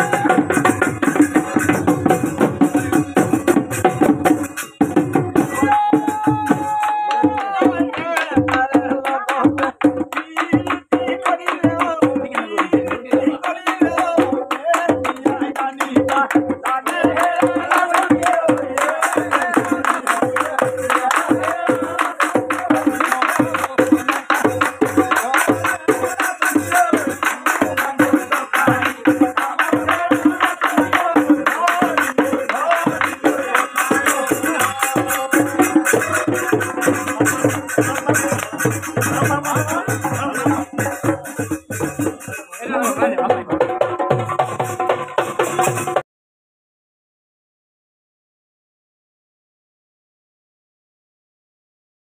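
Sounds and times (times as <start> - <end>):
men singing together: 0.0 - 43.8
drums beaten in fast rhythm: 0.0 - 46.0.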